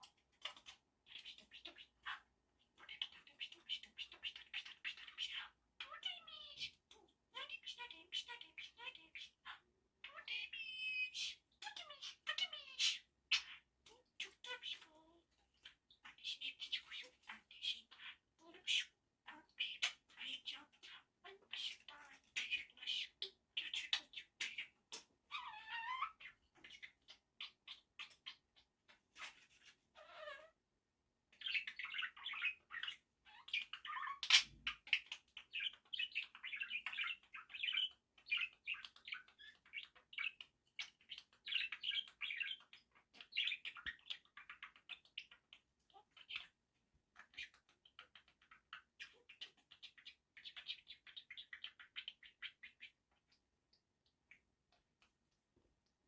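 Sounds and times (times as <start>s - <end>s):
budgerigar chattering and warbling: 0.0s - 29.4s, 31.4s - 46.6s, 47.2s - 53.4s.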